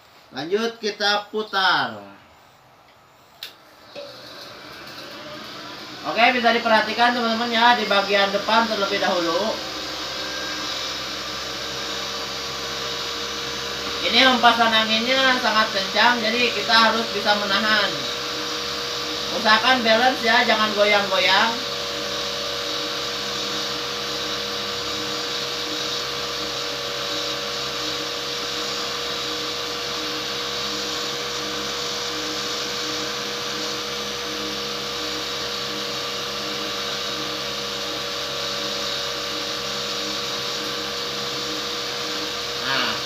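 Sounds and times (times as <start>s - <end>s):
machine motor whine: 2.2s - 43.0s.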